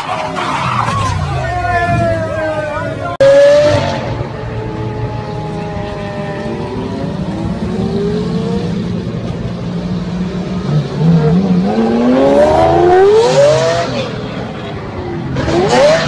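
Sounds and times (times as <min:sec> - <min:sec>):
car engine accelerating: 0:00.7 - 0:16.0.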